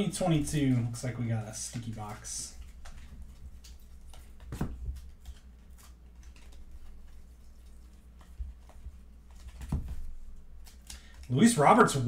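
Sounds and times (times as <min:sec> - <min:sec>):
trading cards sliding and flipping: 0:00.1 - 0:11.3.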